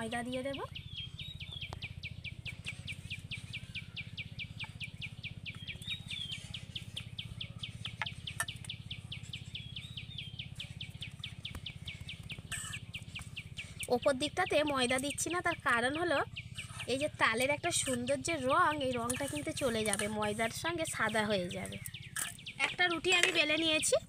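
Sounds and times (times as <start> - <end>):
bird chirps: 0.0 - 24.0.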